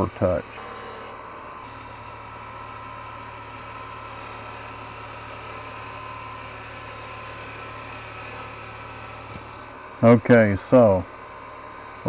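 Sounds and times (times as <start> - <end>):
turning tool cutting wood: 0.0 - 12.0
wood lathe humming: 0.0 - 12.0.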